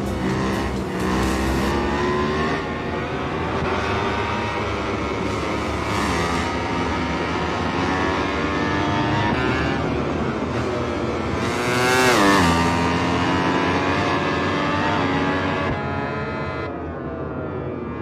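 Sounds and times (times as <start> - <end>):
racing motorcycle passing by: 0.0 - 16.7.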